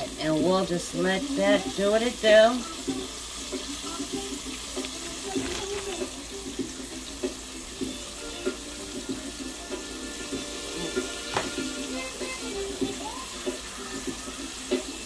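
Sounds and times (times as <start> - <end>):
steak sizzling in oil: 0.0 - 15.0
oil popping and crackling: 2.7 - 15.0.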